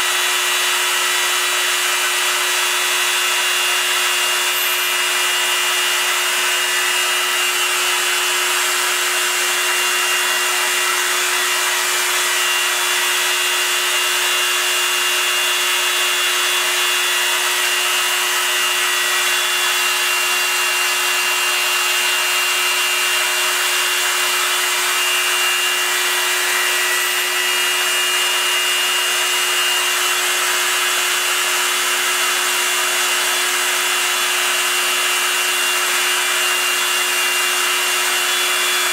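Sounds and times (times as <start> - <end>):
cutter hissing on metal: 0.1 - 14.5, 18.8 - 38.9
milling machine motor whine: 0.2 - 38.9.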